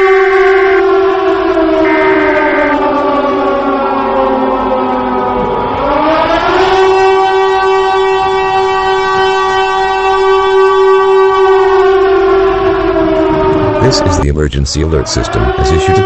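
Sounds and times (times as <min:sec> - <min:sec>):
siren wailing: 0:00.0 - 0:16.0.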